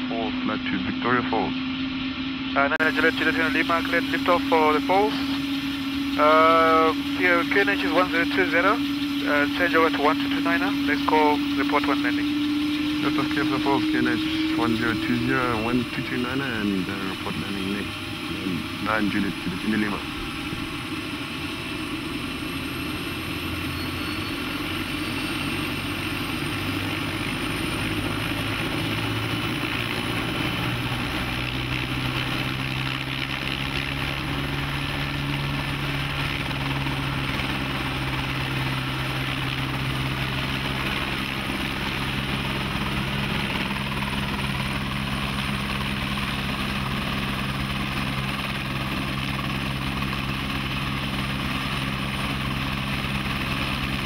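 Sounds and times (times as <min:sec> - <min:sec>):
helicopter engine whine: 0:00.0 - 0:54.0
helicopter rotor hum: 0:00.0 - 0:54.0.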